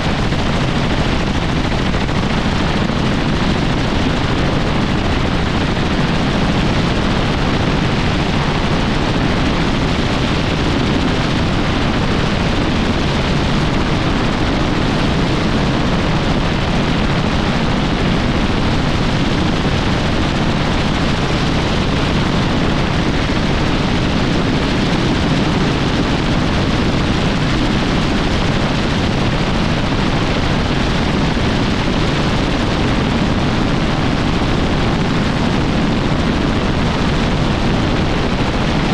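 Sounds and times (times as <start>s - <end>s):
helicopter rotor and engine noise: 0.0s - 38.9s.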